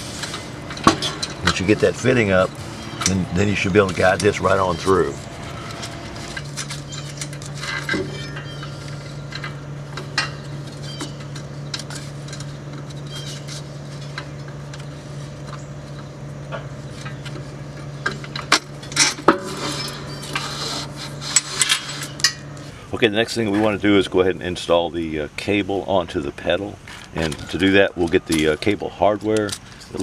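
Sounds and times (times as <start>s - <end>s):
metal hardware clinking and scraping: 0.0s - 22.6s, 26.9s - 30.0s
steady low hum: 0.0s - 30.0s.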